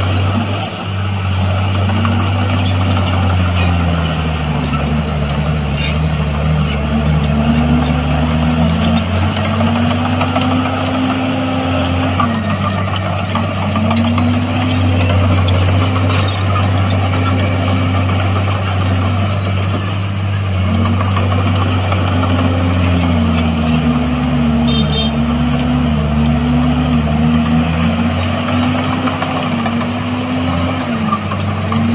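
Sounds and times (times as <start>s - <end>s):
bulldozer diesel engine under load: 0.0s - 31.9s.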